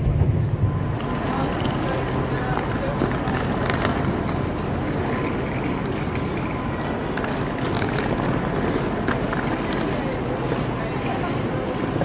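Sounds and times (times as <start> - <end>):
vehicle in motion rumble: 0.0 - 12.0.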